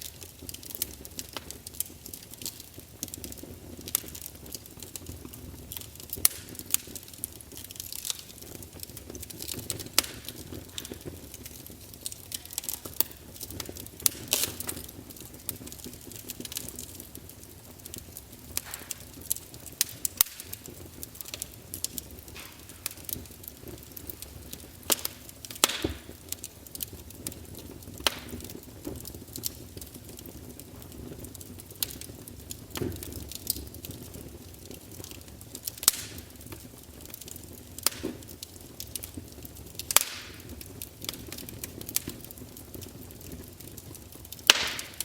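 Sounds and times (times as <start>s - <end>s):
flames rushing: 0.0s - 45.0s
logs crackling and popping: 0.0s - 45.0s.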